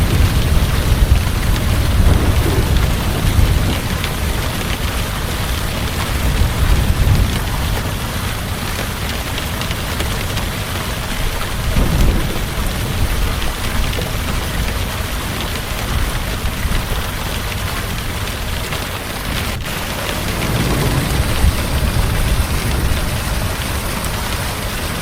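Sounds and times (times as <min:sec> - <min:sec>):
heavy rain falling: 0:00.0 - 0:25.0
low thunder rumble: 0:00.0 - 0:25.0.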